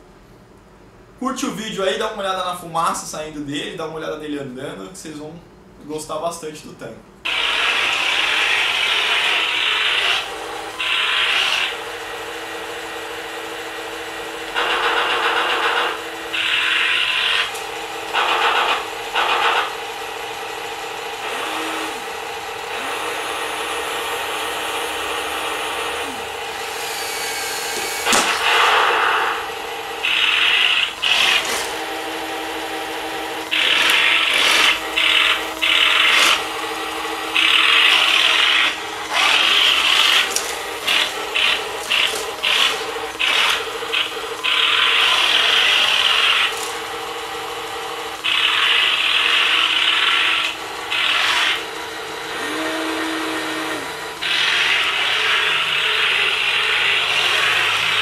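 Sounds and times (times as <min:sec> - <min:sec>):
electric motors whirring: 0:07.2 - 0:58.0.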